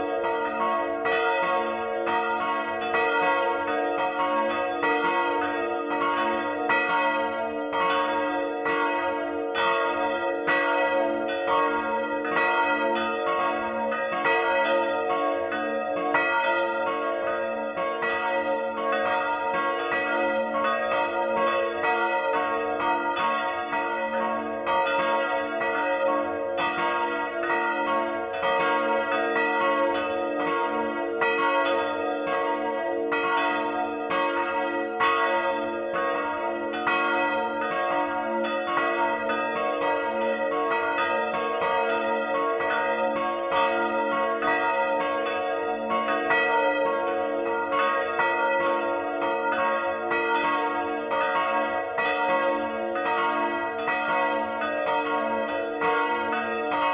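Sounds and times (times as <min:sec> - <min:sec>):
church bells ringing: 0:00.0 - 0:56.9.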